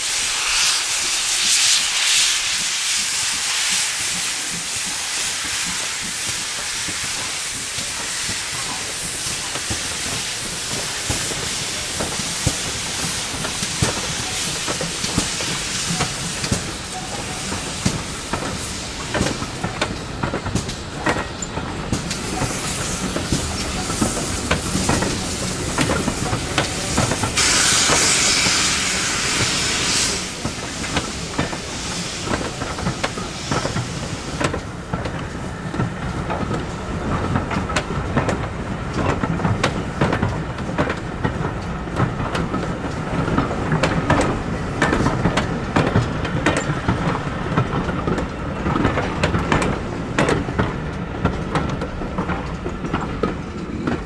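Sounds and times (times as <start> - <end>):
steam hissing from locomotives: 0.0 - 54.0
train wheels clacking over rail joints: 0.0 - 54.0.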